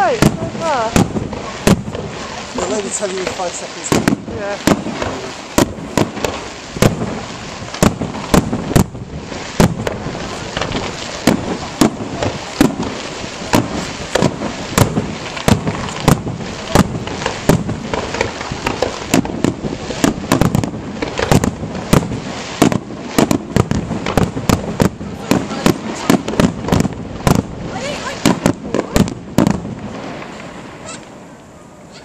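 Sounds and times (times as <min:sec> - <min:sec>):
fireworks bursting with bangs: 0:00.0 - 0:32.0
fireworks crackling: 0:00.0 - 0:32.0.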